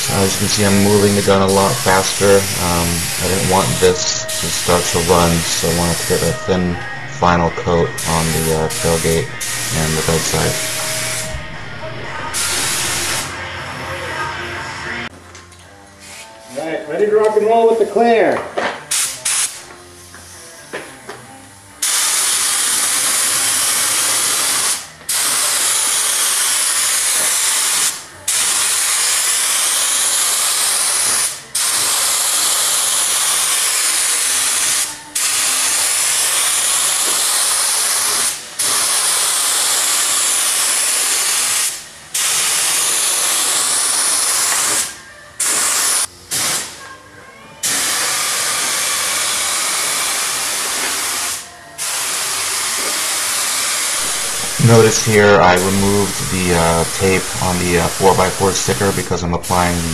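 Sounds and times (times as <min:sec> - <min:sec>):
paint spray gun hissing: 0:00.0 - 0:13.4, 0:21.8 - 0:46.6, 0:47.6 - 0:59.9.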